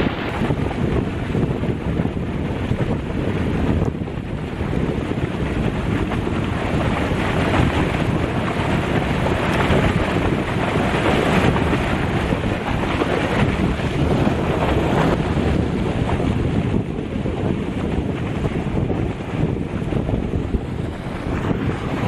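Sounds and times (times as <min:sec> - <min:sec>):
foaming water rushing down a canal: 0:00.0 - 0:22.0
wind buffeting the microphone: 0:00.0 - 0:22.0.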